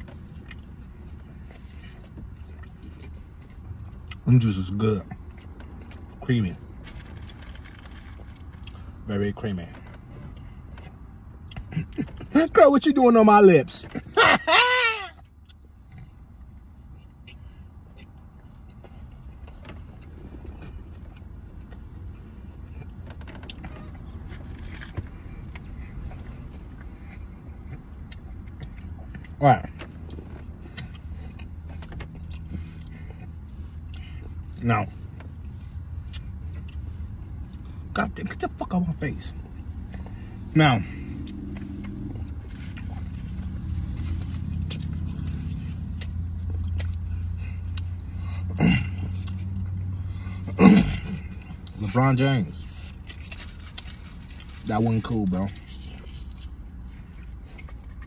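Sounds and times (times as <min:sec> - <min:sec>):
person chewing: 0:00.0 - 0:09.1, 0:09.7 - 0:12.3, 0:15.2 - 0:37.9, 0:39.3 - 0:51.9, 0:52.5 - 0:58.0
low hum inside car: 0:00.0 - 0:58.0.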